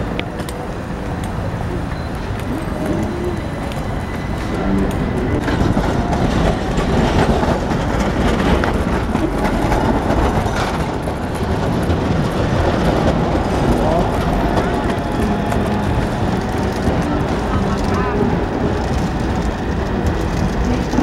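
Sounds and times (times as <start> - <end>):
tram rumbling past: 0.0 - 21.0
wheel-on-rail clatter: 0.0 - 21.0.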